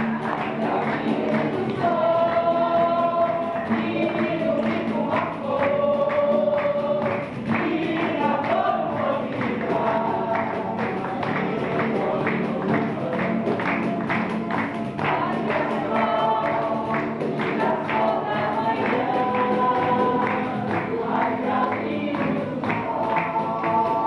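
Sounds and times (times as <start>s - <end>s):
voices singing long notes: 0.0s - 24.0s.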